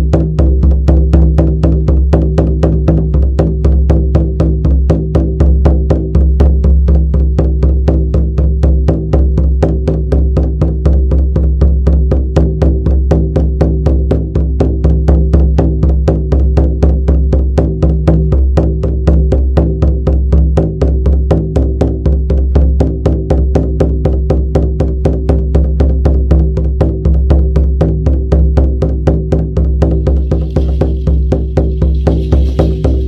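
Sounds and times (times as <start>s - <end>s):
frame drum beaten fast: 0.0s - 33.0s.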